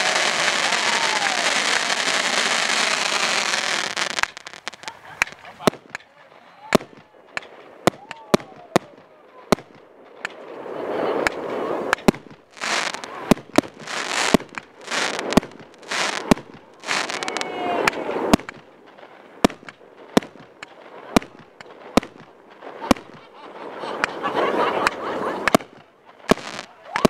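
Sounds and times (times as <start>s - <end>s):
fireworks bangs: 0.0s - 27.0s
fireworks hissing: 0.0s - 27.0s.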